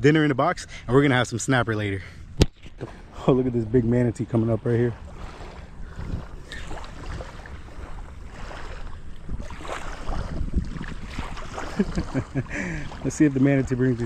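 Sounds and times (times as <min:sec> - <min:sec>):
low rumble: 0:00.0 - 0:14.0
water lapping: 0:01.8 - 0:14.0
wind buffeting microphone: 0:02.2 - 0:14.0.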